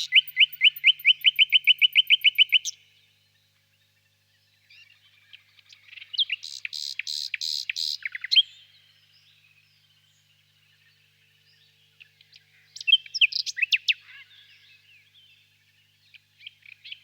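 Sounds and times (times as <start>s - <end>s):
nightingale singing: 0.0s - 17.0s.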